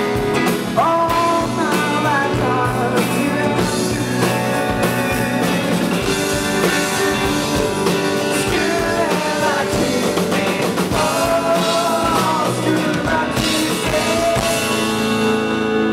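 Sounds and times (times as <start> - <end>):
man singing: 0.0 - 15.4
drum kit: 0.0 - 15.9
strummed acoustic guitars: 0.0 - 15.9.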